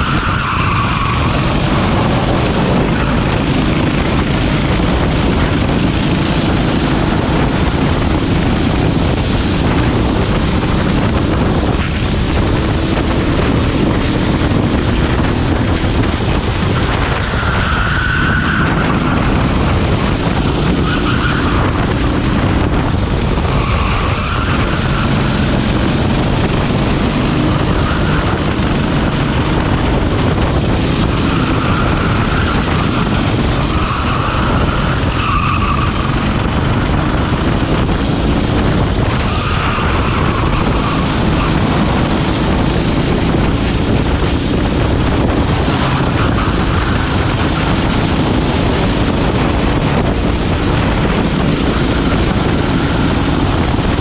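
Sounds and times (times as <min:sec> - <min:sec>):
go-kart engine running hard: 0:00.0 - 0:54.0
other karts nearby: 0:00.0 - 0:54.0
wind buffeting on microphone: 0:00.0 - 0:54.0.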